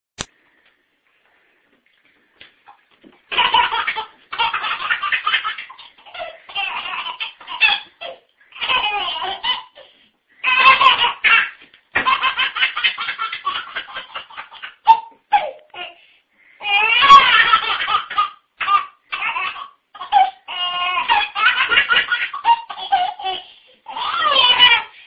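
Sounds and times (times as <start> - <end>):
baby laughing: 3.3 - 16.0, 16.6 - 25.0.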